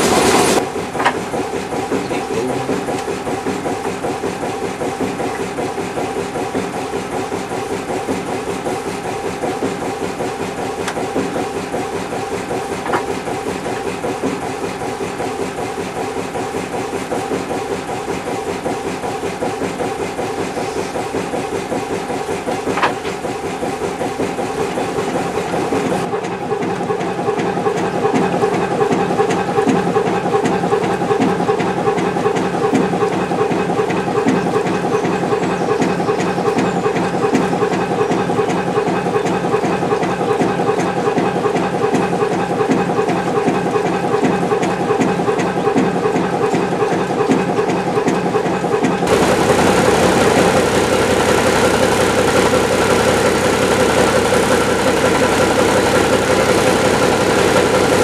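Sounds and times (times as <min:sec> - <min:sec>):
diesel engine chuffing: 0:00.0 - 0:58.0.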